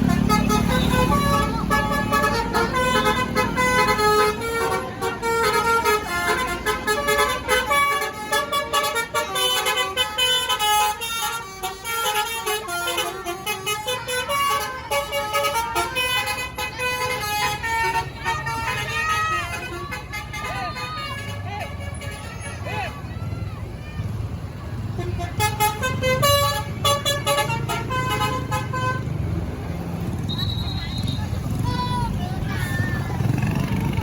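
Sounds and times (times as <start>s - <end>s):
multi-tone bus horn melody: 0.0s - 22.9s, 24.8s - 32.1s
bus engine rumble: 0.0s - 34.0s.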